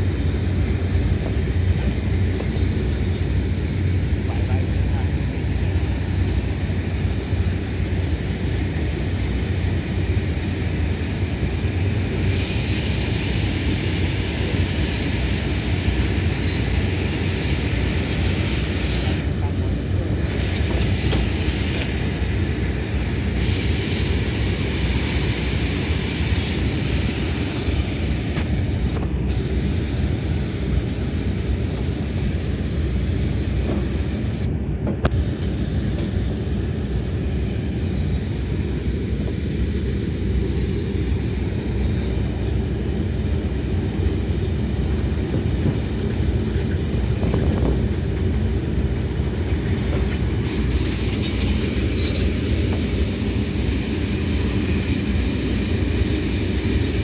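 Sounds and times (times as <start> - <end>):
freight train wagons rumbling: 0.0 - 57.0.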